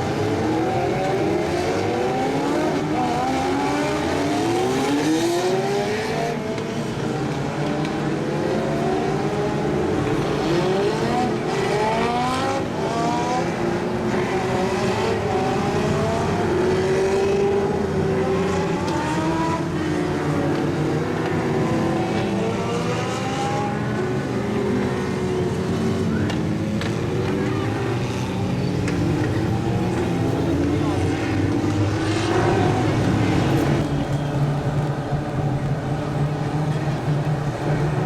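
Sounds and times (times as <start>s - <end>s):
race car engines accelerating: 0.0s - 38.0s.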